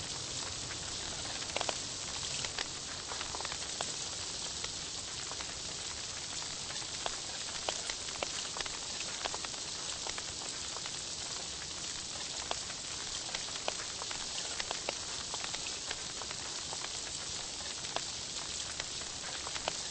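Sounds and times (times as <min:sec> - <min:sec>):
meat sizzling on grill: 0:00.0 - 0:19.9.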